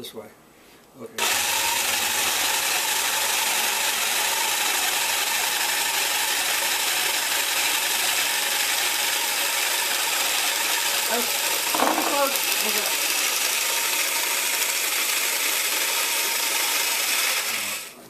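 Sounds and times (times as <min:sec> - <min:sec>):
jigsaw cutting squash: 0:01.2 - 0:18.0.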